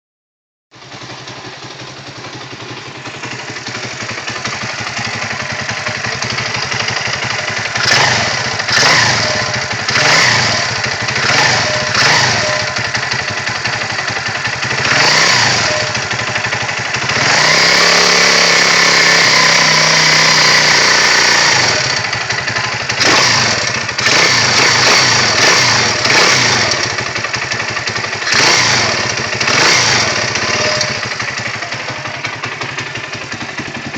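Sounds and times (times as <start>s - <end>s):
engine rattle: 0.8s - 33.9s
pit bike engine revving: 3.2s - 33.9s.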